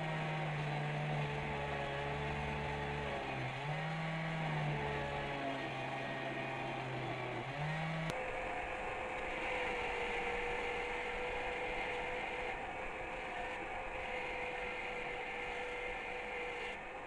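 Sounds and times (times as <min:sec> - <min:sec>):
power tool motor running: 0:00.0 - 0:17.0.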